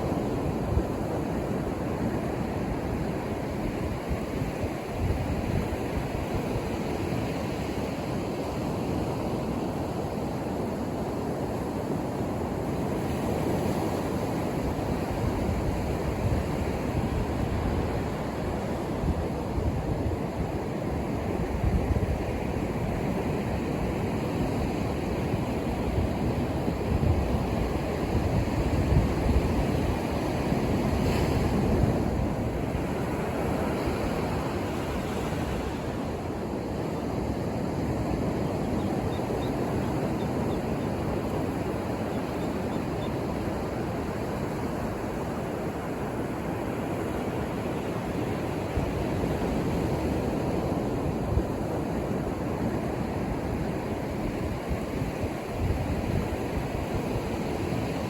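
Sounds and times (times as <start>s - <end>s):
surf waves breaking: 0.0s - 58.0s.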